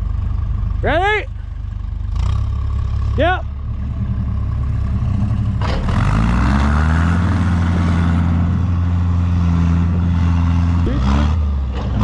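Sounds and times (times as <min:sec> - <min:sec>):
vehicle engine revving: 0:02.0 - 0:12.0.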